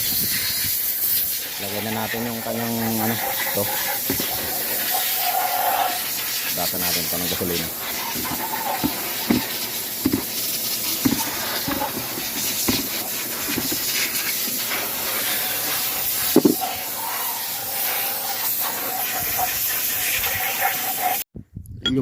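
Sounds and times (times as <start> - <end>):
steady hiss: 0.0 - 21.2.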